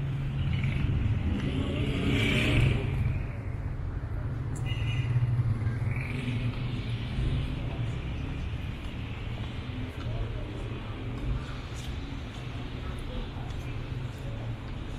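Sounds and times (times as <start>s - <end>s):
vehicle engines humming: 0.0s - 14.9s.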